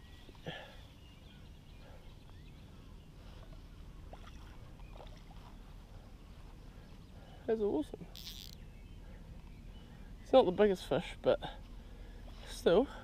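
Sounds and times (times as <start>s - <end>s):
faint low rumble: 0.0s - 13.0s.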